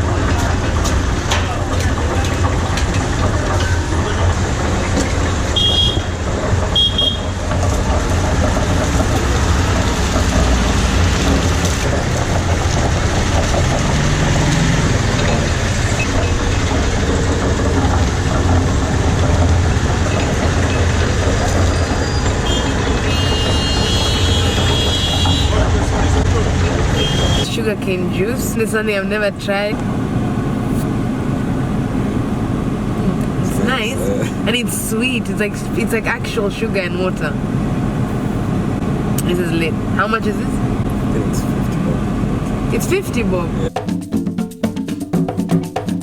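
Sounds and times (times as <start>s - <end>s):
low motor rumble: 0.0s - 43.7s
street noise: 0.0s - 44.1s.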